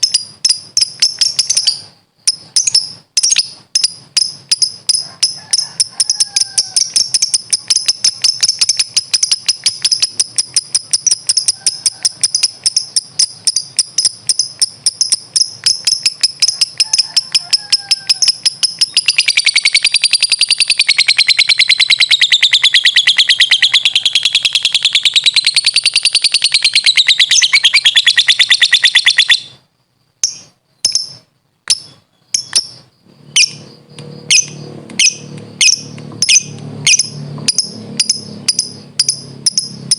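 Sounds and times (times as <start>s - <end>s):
lovebird chirping and trilling: 0.0s - 39.9s.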